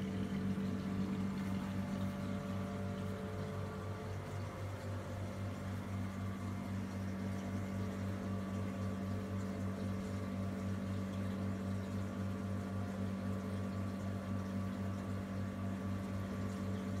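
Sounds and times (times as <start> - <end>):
faint moving water: 0.0 - 17.0
pulsing electrical hum: 0.0 - 17.0.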